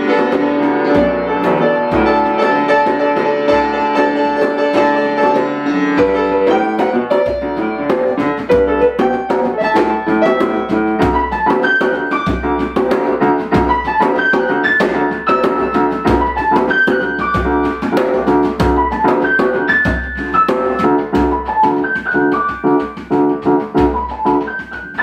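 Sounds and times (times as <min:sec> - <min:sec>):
piano melody over chords: 0:00.0 - 0:25.0.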